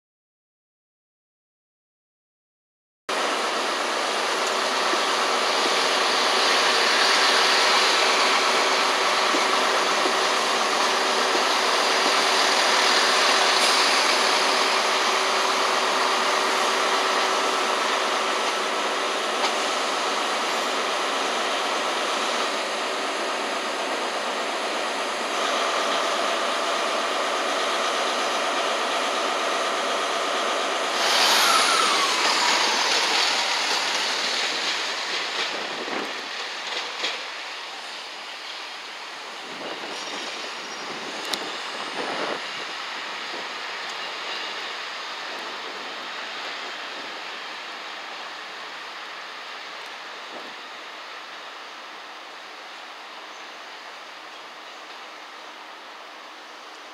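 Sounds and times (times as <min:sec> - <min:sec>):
diesel train engine drone: 0:03.1 - 0:56.9
train whining tones: 0:03.1 - 0:56.9.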